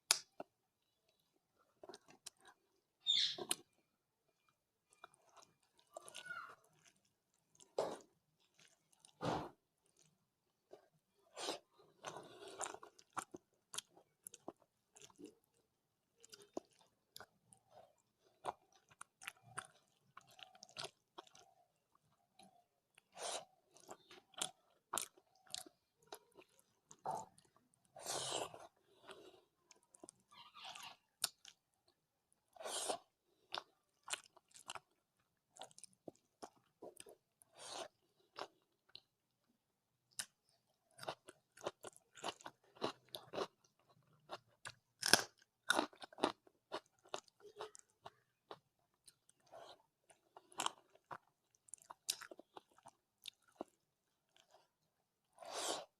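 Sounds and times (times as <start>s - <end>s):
close chewing and eating: 0.0s - 55.9s.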